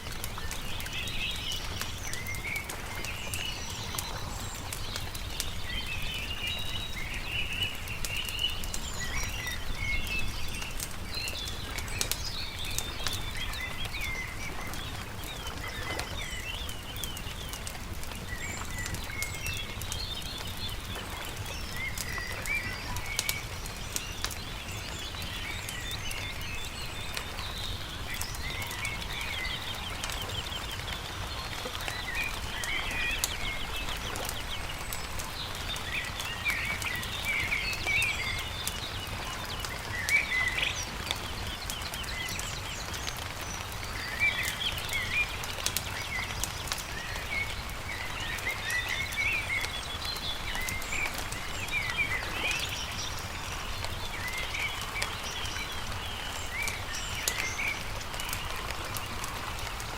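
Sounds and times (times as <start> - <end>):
campfire crackling and popping: 0.0 - 59.9
songbirds chirping and trilling: 0.0 - 59.9.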